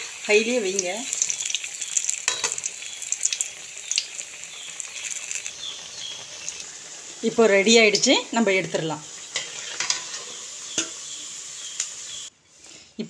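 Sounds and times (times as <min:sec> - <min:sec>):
food sizzling in hot oil: 0:00.0 - 0:12.3.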